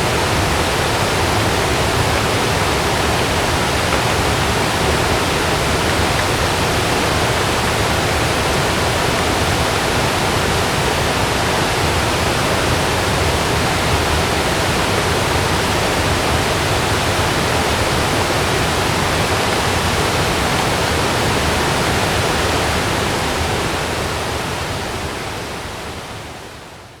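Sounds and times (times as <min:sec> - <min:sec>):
heavy rain on a tent: 0:00.0 - 0:27.0.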